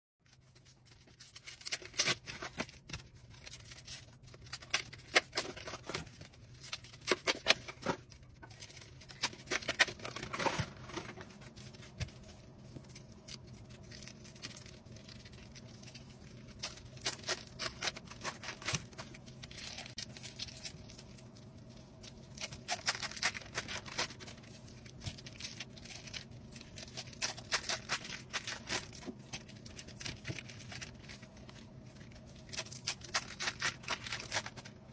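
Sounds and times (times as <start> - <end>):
foil wrappers crinkling: 0.3 - 34.9.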